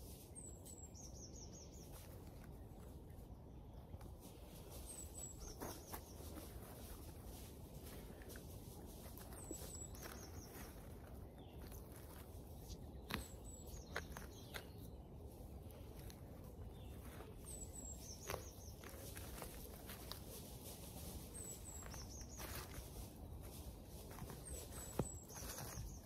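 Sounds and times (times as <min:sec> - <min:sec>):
low steady outdoor hum: 0:00.0 - 0:26.0.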